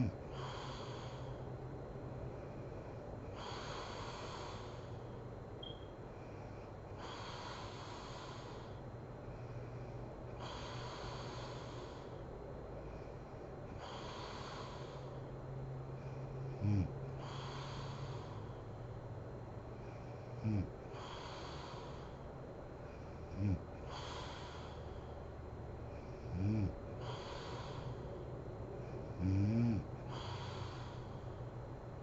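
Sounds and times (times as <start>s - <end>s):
woman breathing heavily: 0.0s - 5.4s, 6.0s - 32.0s
low steady hum: 0.0s - 32.0s.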